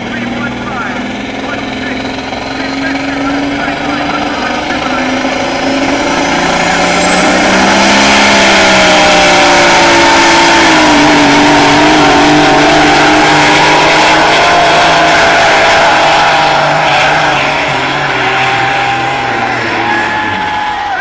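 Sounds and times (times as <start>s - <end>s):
diesel truck engine at full throttle: 0.0s - 21.0s
rising whine: 0.0s - 21.0s.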